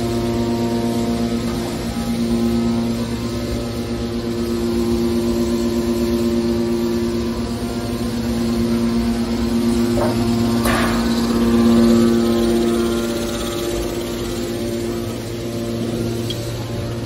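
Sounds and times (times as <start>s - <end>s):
hydraulic pump motor hum: 0.0s - 17.0s.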